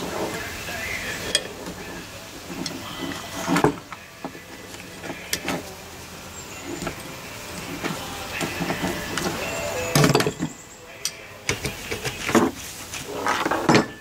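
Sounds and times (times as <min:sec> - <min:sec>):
hand tool clinking on metal: 0:00.1 - 0:12.5.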